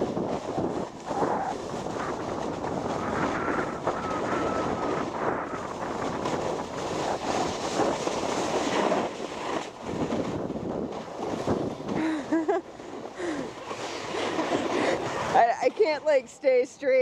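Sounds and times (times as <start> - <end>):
snowboard scraping over snow: 0.0 - 17.0
wind buffeting microphone: 0.0 - 17.0.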